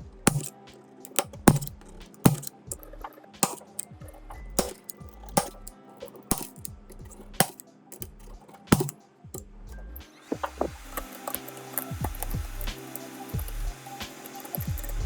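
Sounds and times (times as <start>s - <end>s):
faint background music: 0.0s - 15.0s
clicks and taps of small tools: 0.3s - 0.5s, 1.1s - 9.0s, 10.4s - 15.0s.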